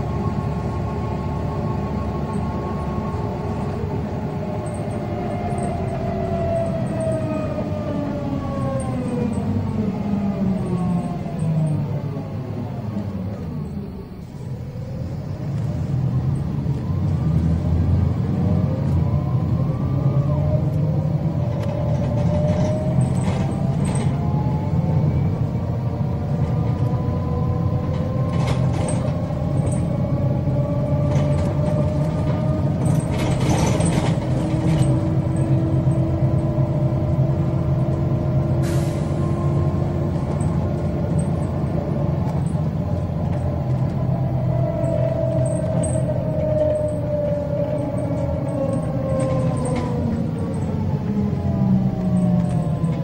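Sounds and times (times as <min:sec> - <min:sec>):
bus engine and drivetrain whine: 0:00.0 - 0:53.0.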